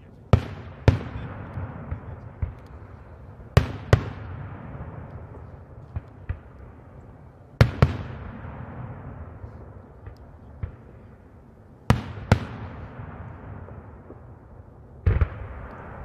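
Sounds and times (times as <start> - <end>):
fireworks bangs with rumbling echo: 0.0 - 16.0.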